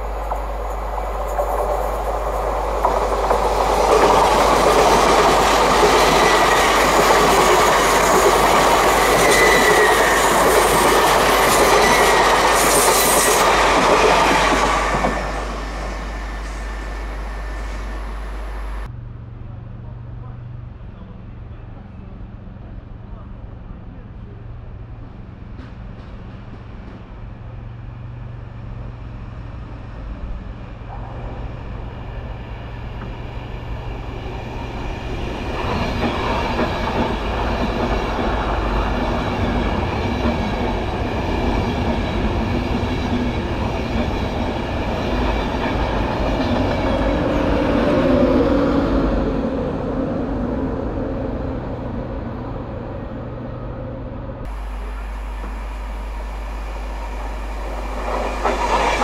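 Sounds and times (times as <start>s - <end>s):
diesel train passing at speed: 0.0s - 59.0s.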